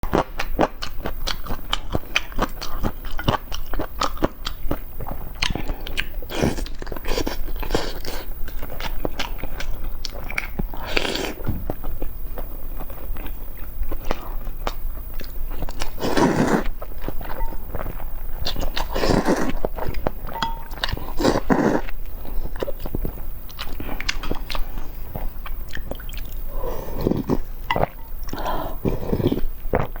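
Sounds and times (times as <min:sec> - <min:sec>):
biting and chewing: 0:00.0 - 0:30.0.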